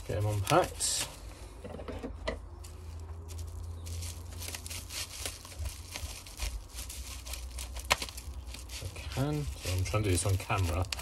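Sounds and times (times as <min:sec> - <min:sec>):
bubble wrap crinkling: 0:00.0 - 0:01.5, 0:02.6 - 0:11.0.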